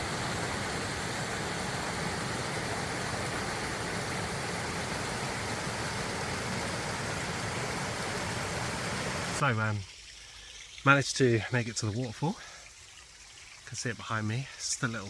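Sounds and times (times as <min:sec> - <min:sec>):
stream and small waterfall rushing: 0:00.0 - 0:15.0.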